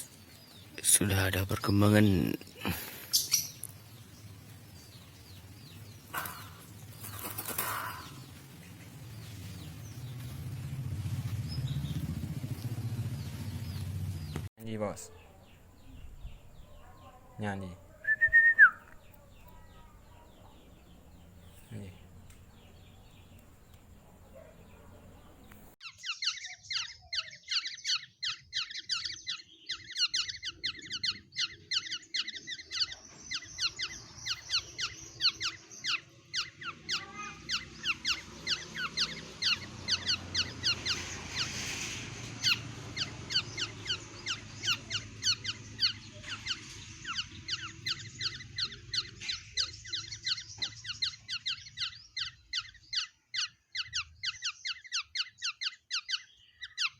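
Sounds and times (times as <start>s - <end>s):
songbird chirping: 0.0s - 56.9s.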